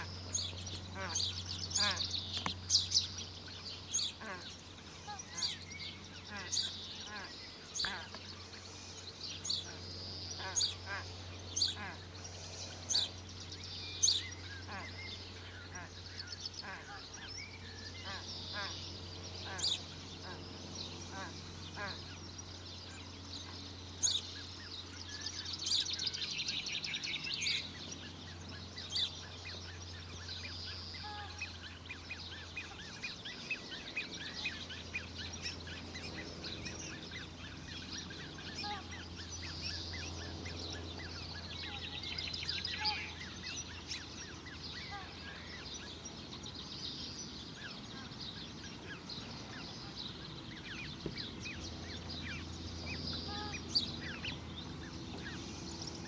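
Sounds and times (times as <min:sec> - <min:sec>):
bird chicks peeping: 0:00.0 - 0:56.0.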